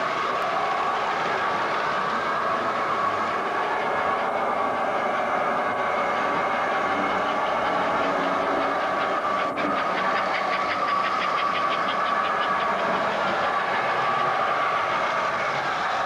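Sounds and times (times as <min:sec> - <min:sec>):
cars clicking over track: 0:00.0 - 0:16.0
model train whirring: 0:00.0 - 0:16.0.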